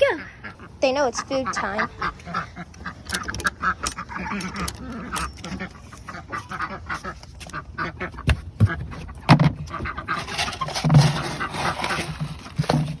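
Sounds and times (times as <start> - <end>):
ducks quacking: 0.0 - 12.6.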